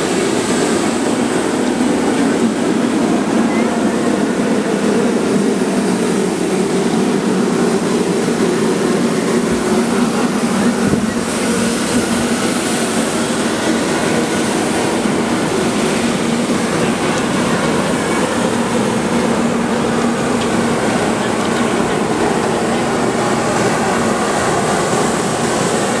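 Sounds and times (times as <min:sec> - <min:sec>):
train running hum: 0:00.0 - 0:26.0.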